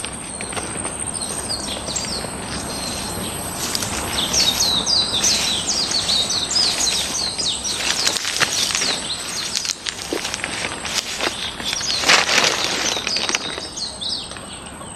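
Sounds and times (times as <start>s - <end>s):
birds chirping: 0.0s - 14.9s
steady outdoor hiss: 0.0s - 14.9s.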